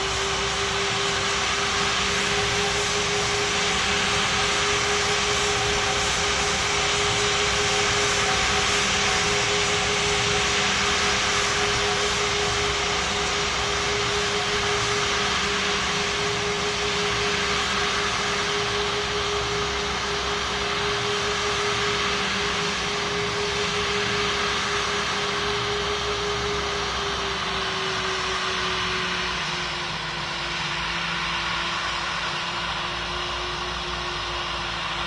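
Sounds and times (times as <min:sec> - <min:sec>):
jet engine roar and whine: 0:00.0 - 0:35.0.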